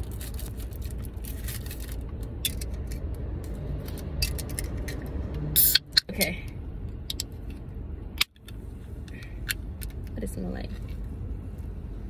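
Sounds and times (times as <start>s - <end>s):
low car cabin rumble: 0.0s - 12.0s.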